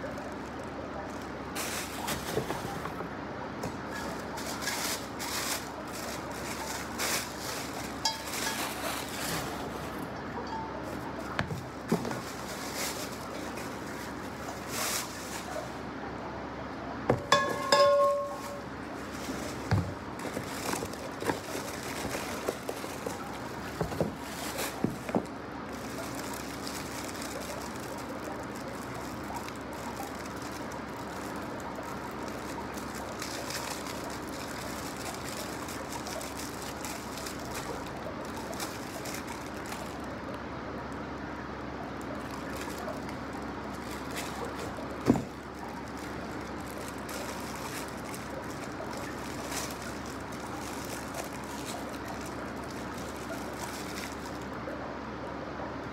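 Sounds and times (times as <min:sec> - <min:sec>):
cardboard and plastic handling: 0:00.0 - 0:10.0, 0:10.8 - 0:15.7, 0:17.1 - 0:40.3, 0:42.2 - 0:54.4
steady low hum: 0:00.0 - 0:55.9.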